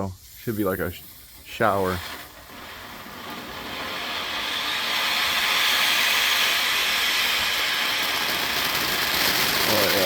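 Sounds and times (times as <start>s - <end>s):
firework fountain hissing: 0.0s - 10.0s.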